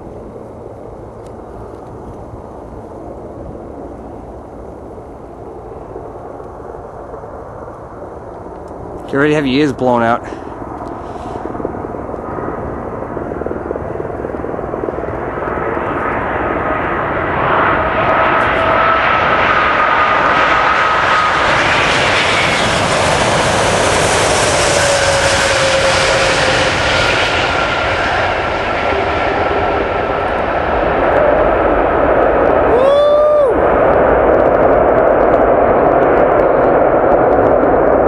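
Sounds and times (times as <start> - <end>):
jet engine roar: 0.0 - 38.0
jet engine whine: 0.0 - 38.0.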